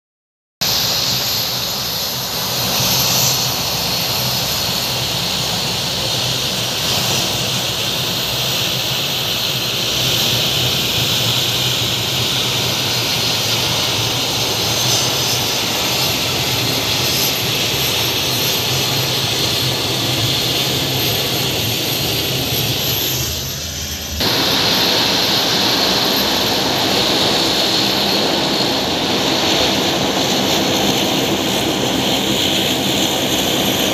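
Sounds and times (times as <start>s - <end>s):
low propeller hum: 0.6s - 33.9s
turboprop engine whine: 0.6s - 33.9s.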